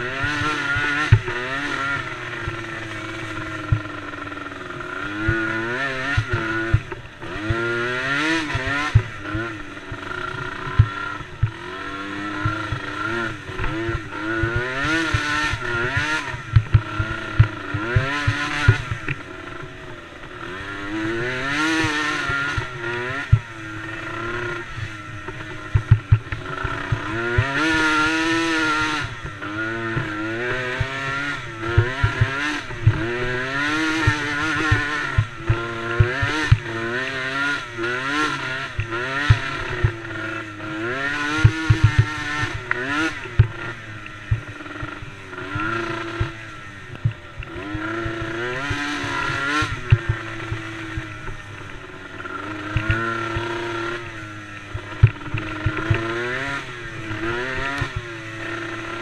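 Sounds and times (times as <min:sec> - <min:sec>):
small engines revving: 0:00.0 - 0:59.0.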